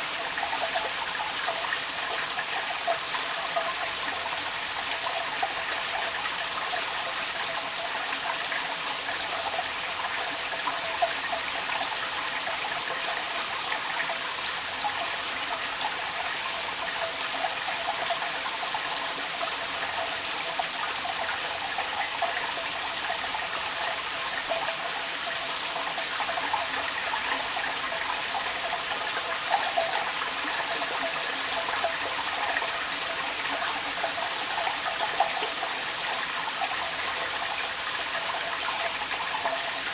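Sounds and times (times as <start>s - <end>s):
water trickling out of a downpipe: 0.0s - 39.9s.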